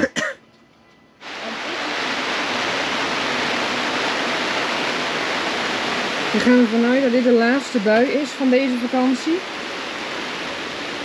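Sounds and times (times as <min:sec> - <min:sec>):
heavy rain falling: 0:01.2 - 0:11.0.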